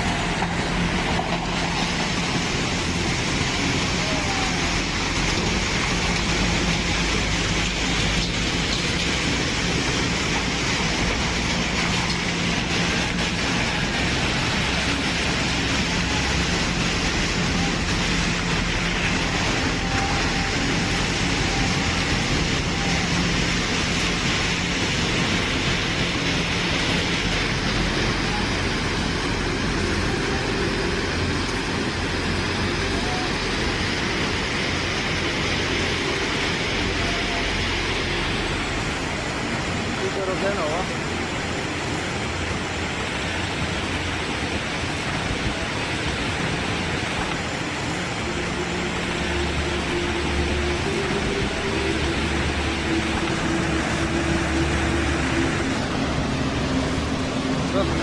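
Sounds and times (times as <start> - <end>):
flood water rushing: 0.0 - 58.0.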